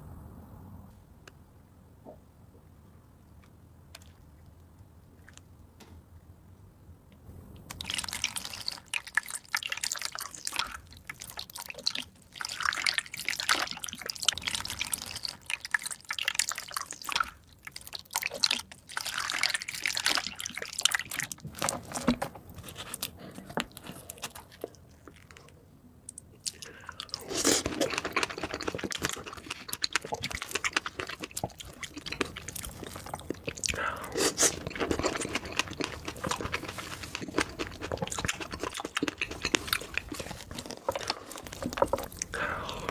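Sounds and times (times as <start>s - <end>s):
wet chewing and crunching: 3.4s - 5.6s, 7.6s - 42.9s.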